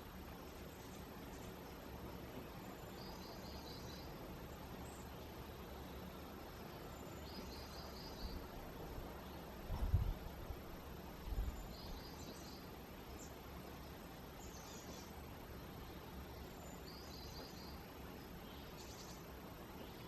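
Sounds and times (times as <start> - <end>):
steady background hiss: 0.0 - 20.0
small birds chirping: 0.1 - 10.1, 11.2 - 20.0.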